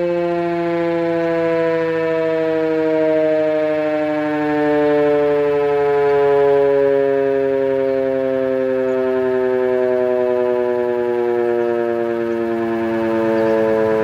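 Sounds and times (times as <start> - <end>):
electric siren wailing: 0.0 - 14.0.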